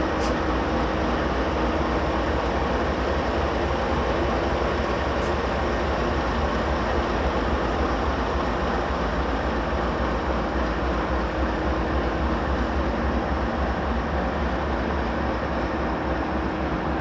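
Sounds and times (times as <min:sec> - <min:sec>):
diesel locomotives rumbling past: 0:00.0 - 0:17.0.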